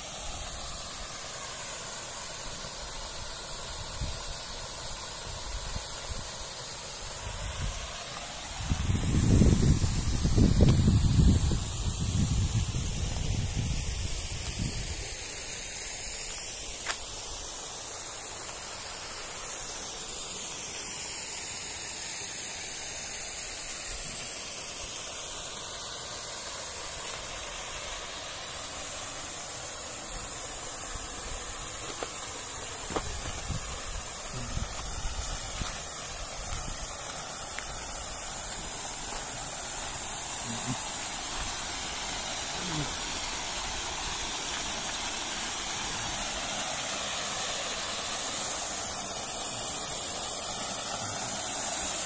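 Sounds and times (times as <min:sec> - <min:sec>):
waterfall rushing: 0:00.0 - 0:11.7, 0:14.8 - 0:52.0.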